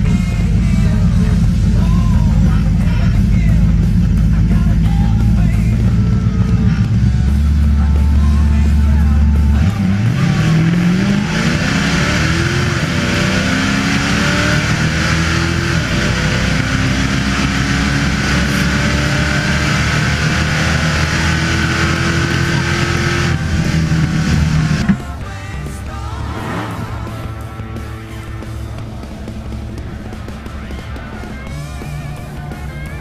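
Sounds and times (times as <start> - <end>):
drag car engine revving: 0.0 - 33.0.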